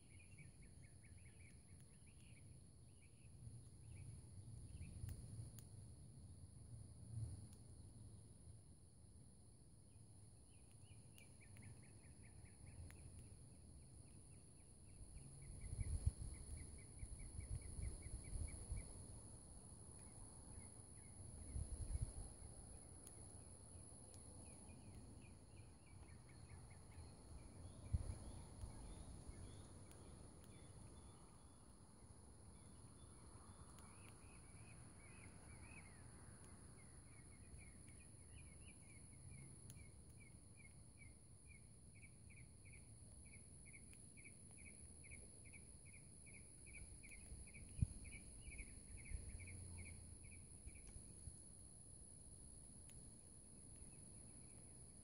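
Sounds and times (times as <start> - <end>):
songbird singing: 0.0 - 5.6, 9.9 - 55.0
steady high-pitched whine: 0.0 - 55.0.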